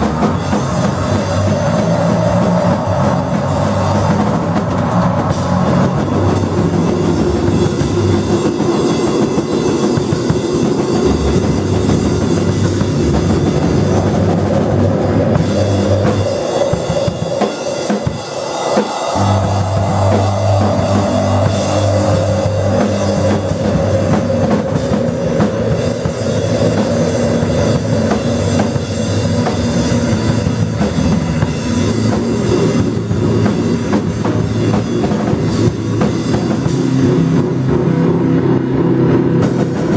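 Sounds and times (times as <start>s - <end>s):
low bass: 0.0s - 8.3s, 11.0s - 16.4s, 19.2s - 39.9s
drum kit: 0.0s - 39.9s
noise-rock band playing loud: 0.0s - 39.9s.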